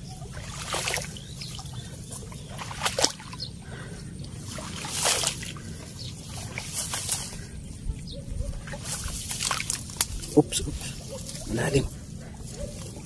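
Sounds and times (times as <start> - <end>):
sloshing footsteps in swamp water: 0.0 - 13.0.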